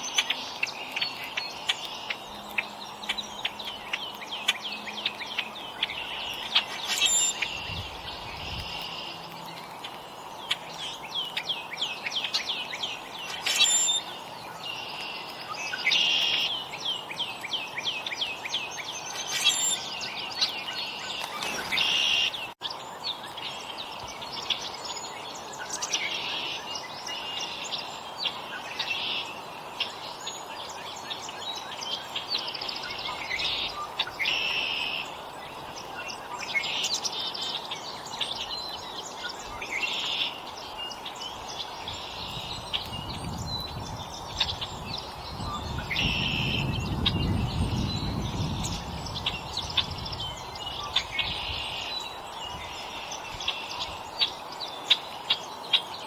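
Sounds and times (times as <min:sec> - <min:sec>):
songbirds buzzy calls: 0:00.0 - 0:56.0.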